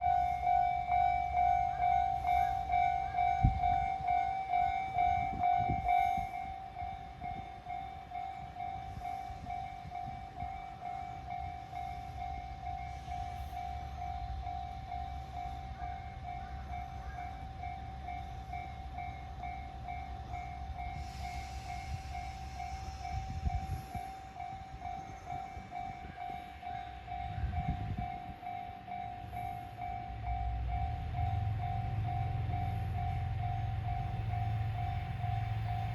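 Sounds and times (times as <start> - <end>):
level crossing warning bell: 0.0 - 35.9.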